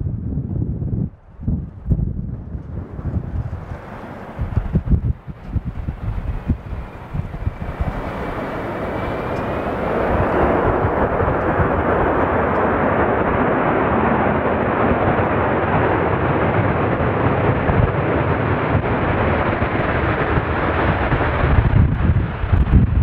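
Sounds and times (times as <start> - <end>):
jet engines roaring: 2.1 - 22.6.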